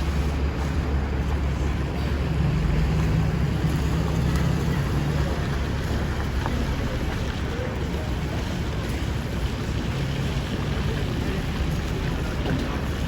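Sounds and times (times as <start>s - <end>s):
road traffic: 0.0s - 13.0s
vehicle engine rumble: 0.0s - 13.0s.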